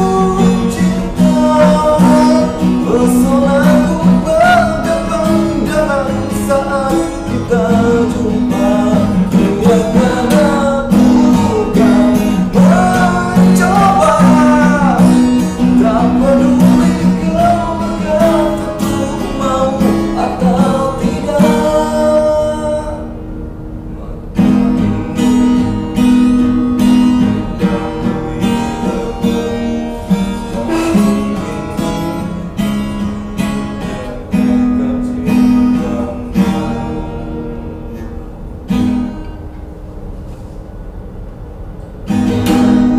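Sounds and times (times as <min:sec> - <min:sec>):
man singing: 0:00.0 - 0:23.2, 0:24.0 - 0:25.6, 0:26.8 - 0:37.6, 0:42.1 - 0:42.9
acoustic guitar strumming: 0:00.0 - 0:42.9.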